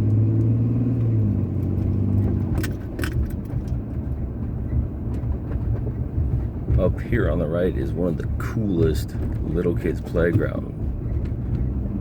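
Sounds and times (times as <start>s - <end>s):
car engine hum: 0.0s - 12.0s
road noise inside car: 0.0s - 12.0s.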